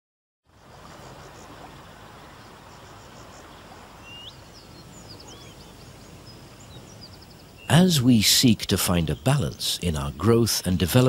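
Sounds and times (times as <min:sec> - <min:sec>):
small birds chirping: 0:00.6 - 0:11.0
steady background hiss: 0:00.6 - 0:11.0.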